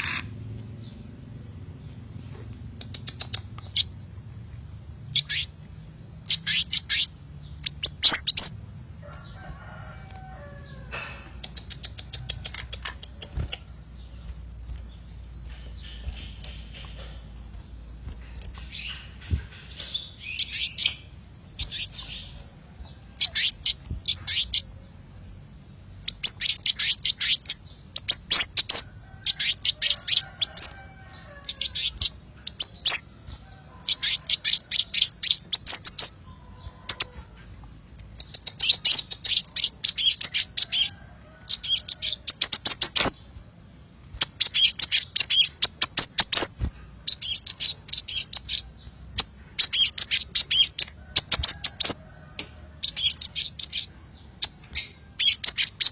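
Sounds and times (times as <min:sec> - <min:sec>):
sunbird rapid high chirping: 0:00.0 - 0:55.9.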